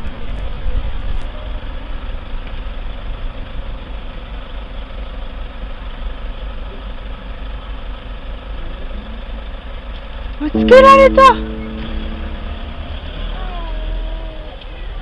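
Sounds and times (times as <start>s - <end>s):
car engine idling: 0.6s - 15.0s.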